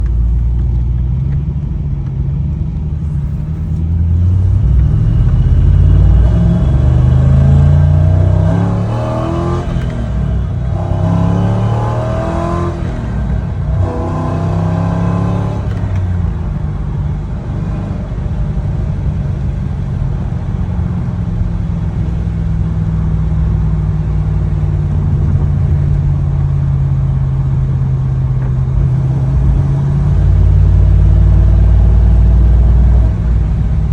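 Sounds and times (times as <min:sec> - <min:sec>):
car engine running under load: 0:00.0 - 0:33.9.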